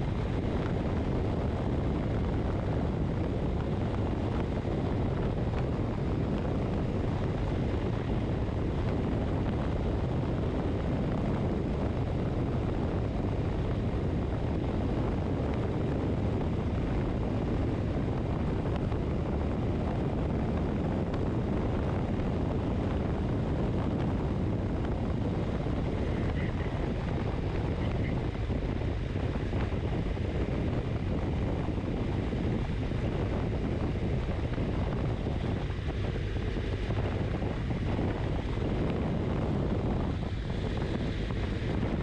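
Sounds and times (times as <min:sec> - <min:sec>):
motorcycle engine cruising: 0:00.0 - 0:42.0
road noise: 0:00.0 - 0:42.0
wind rushing over microphone: 0:00.0 - 0:42.0.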